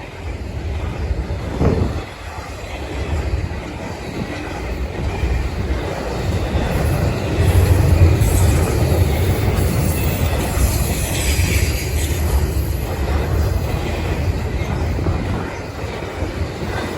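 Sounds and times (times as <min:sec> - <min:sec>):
freight train rumbling on rails: 0:00.0 - 0:16.9.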